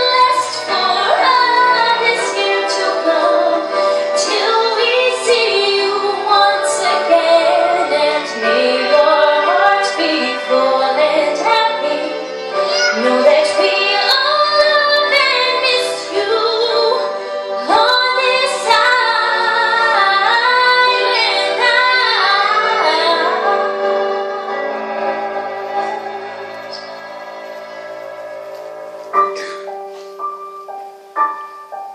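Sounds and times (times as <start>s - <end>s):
girl singing into microphone: 0.0s - 26.9s
pop backing track: 0.0s - 31.9s.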